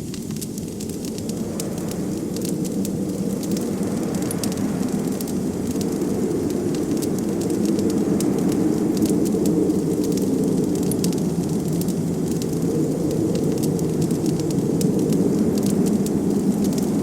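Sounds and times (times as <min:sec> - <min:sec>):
blizzard wind rushing: 0:00.0 - 0:17.0
wood fire crackling: 0:00.0 - 0:17.0.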